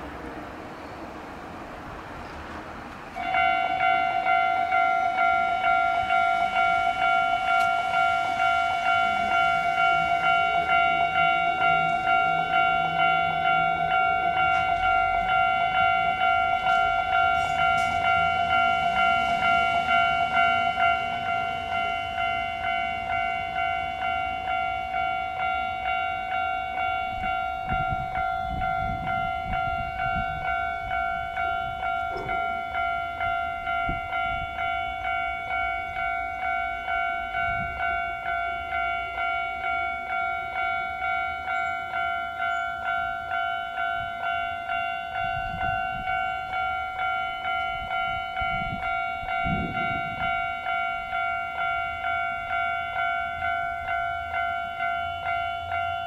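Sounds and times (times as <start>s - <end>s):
low rumble of train: 0.0s - 56.0s
level crossing bell ringing: 3.1s - 56.0s.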